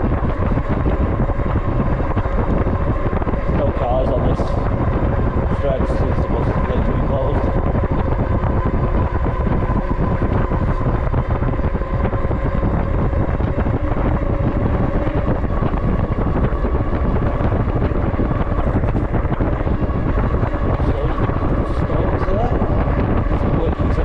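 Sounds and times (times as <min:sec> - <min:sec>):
electric motor whine: 0:00.0 - 0:24.0
wind buffeting microphone: 0:00.0 - 0:24.0.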